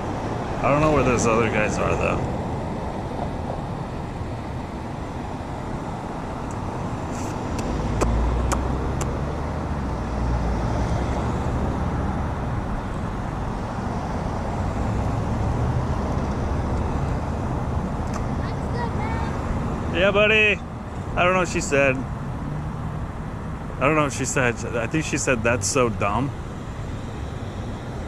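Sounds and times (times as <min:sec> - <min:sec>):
cars driving by: 0:00.0 - 0:28.0.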